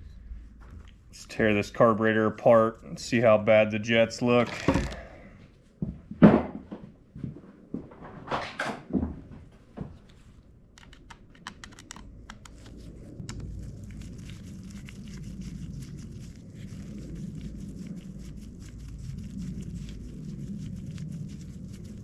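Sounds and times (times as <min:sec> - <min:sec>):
low hum: 0:00.0 - 0:05.8, 0:09.3 - 0:22.0.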